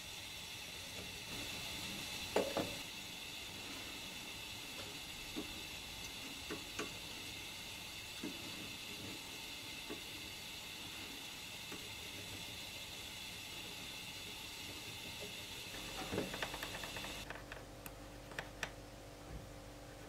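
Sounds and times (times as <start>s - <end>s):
gas burner flame hissing: 0.0s - 17.3s.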